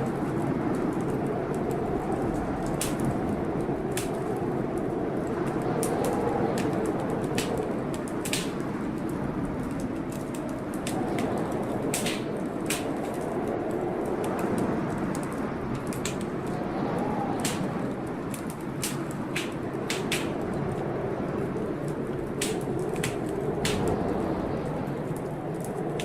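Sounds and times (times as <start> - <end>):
rain: 0.0 - 26.0
storm wind: 0.0 - 26.0
wood fire crackling: 0.0 - 26.0.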